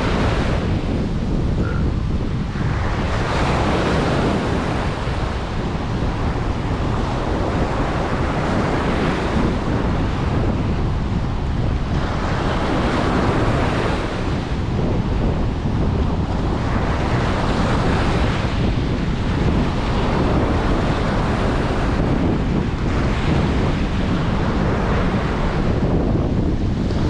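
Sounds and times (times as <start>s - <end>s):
waves breaking on a beach: 0.0s - 27.0s.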